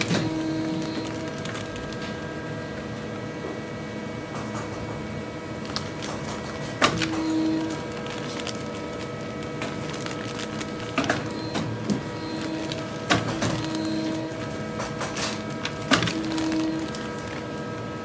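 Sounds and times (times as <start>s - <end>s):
shoe-making machine humming: 0.0s - 18.0s.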